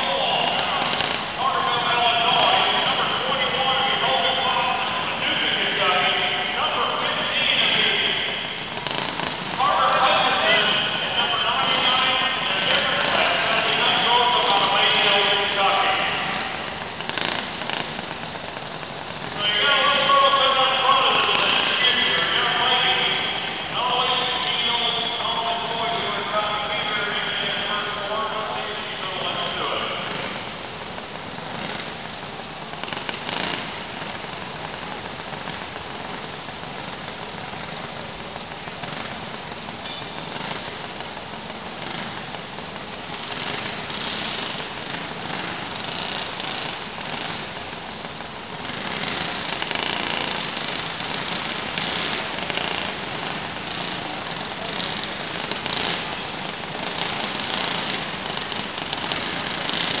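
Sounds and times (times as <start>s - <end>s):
kart engines racing: 0.0s - 60.0s.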